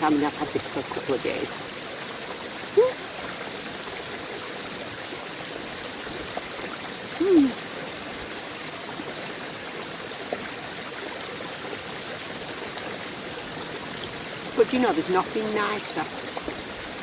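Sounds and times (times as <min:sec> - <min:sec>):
brook and waterfall rushing: 0:00.0 - 0:17.0.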